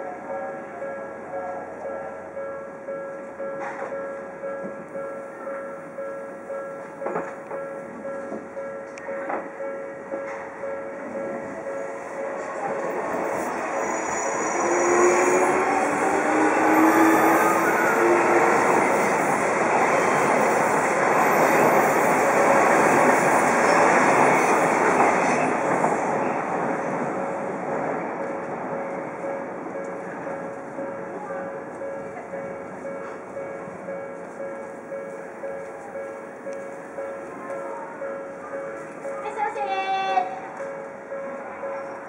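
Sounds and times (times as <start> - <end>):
level-crossing warning bell clanging: 0.0 - 42.0
train wheels rumbling on rails: 6.8 - 42.0.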